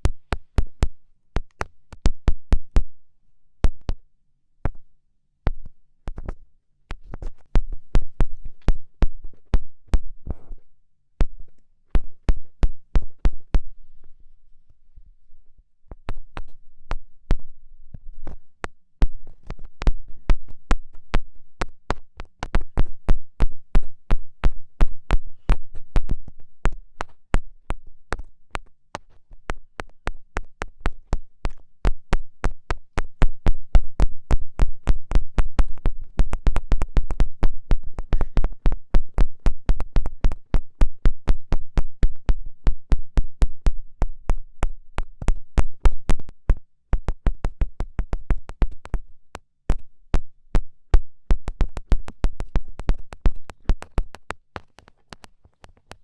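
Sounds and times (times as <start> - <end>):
rapid fingertip taps: 0.0 - 3.0, 3.6 - 4.0, 4.6 - 10.6, 11.2 - 13.8, 15.9 - 17.5, 18.2 - 56.0.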